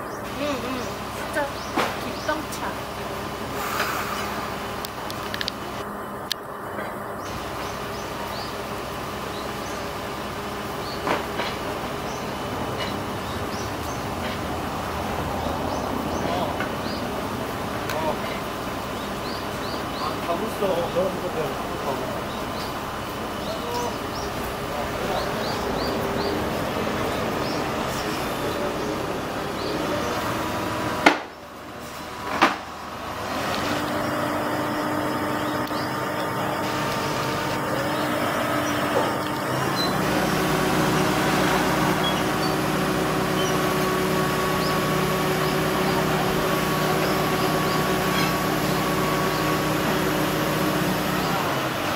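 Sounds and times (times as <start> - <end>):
crane engine running: 0.0 - 51.9.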